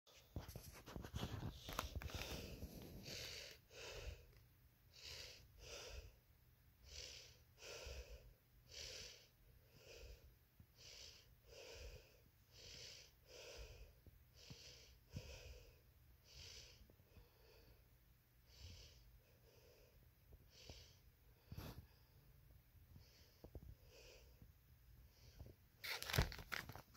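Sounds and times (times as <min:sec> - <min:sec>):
faint breathing: 0:01.2 - 0:06.2, 0:06.8 - 0:25.6.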